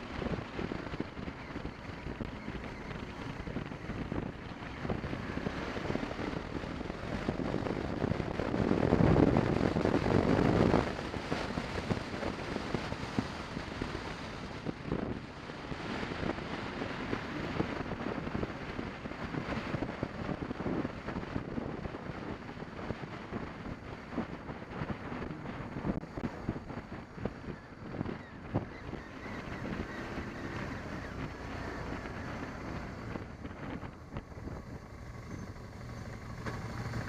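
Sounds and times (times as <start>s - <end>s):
motorcycle engine running: 0.0s - 37.0s
wind rushing over microphone: 0.0s - 37.0s.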